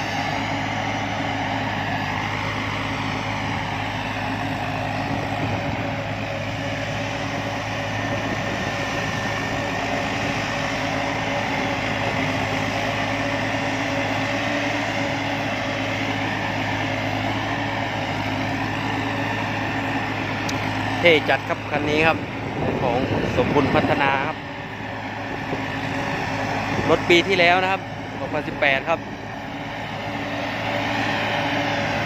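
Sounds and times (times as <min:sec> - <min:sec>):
harvester engine humming: 0:00.0 - 0:32.0.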